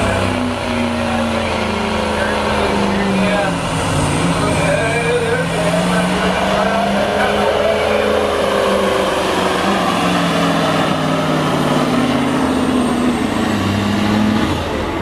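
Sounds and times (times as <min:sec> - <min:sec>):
diesel truck engine labouring: 0:00.0 - 0:15.0.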